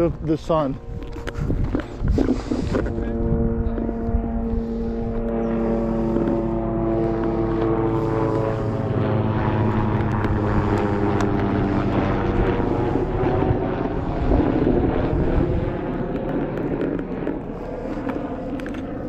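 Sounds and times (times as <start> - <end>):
propeller aircraft engine droning: 0.0 - 19.0.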